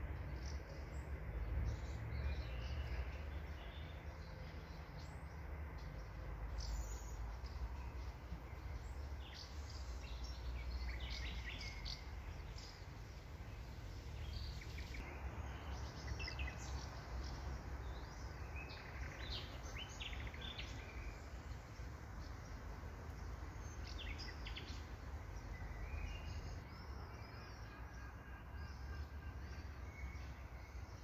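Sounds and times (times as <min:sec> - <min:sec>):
small birds chirping: 0:00.0 - 0:27.6.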